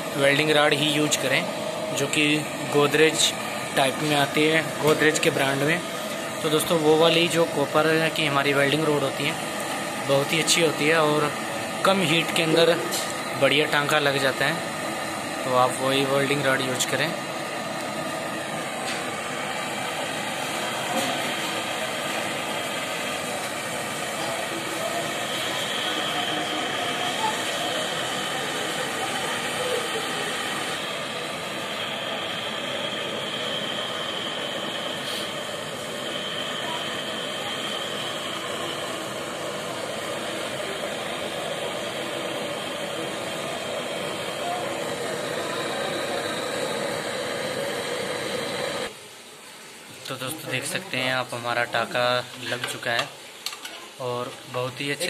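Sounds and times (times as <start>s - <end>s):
gas torch flame burning: 0.0s - 55.0s.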